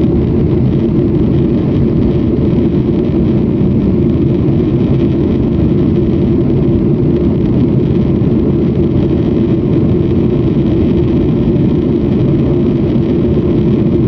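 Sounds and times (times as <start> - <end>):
airliner cabin engine drone: 0.0 - 14.0.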